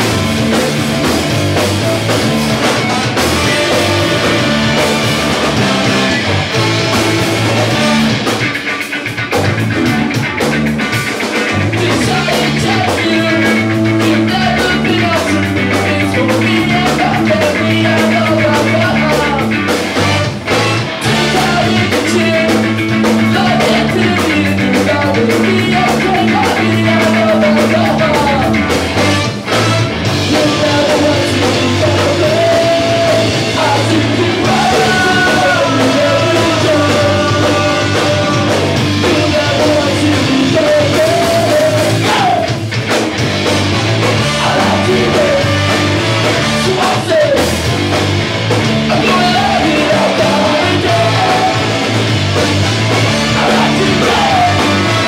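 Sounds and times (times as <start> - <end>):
live ska band playing: 0.0 - 55.0.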